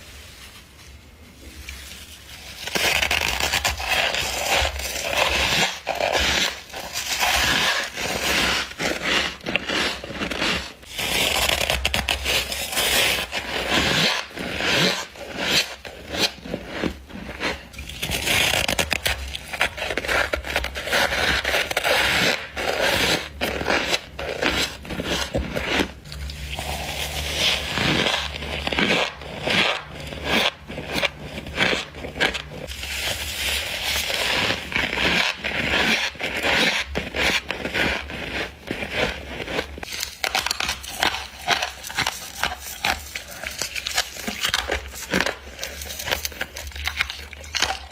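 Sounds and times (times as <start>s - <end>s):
crunchy chewing of frost: 1.4s - 47.9s.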